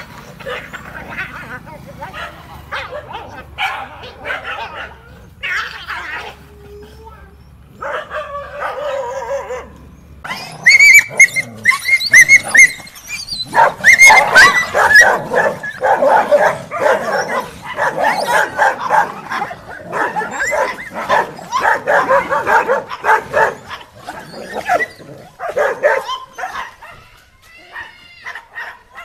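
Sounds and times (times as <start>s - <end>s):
dogs barking and yelping: 0.0s - 29.0s.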